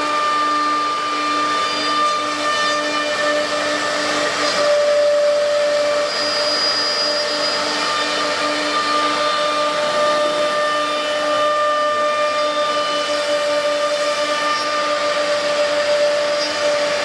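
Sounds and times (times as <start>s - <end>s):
cnc router motor whine: 0.0s - 17.0s.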